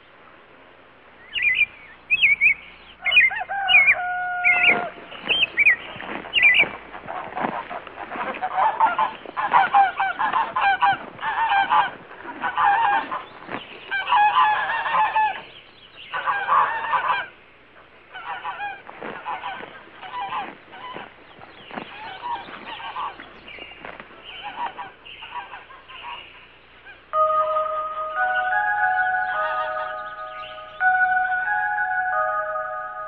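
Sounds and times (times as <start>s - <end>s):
geese honking: 3.0s - 15.5s, 16.1s - 17.4s, 18.1s - 33.0s.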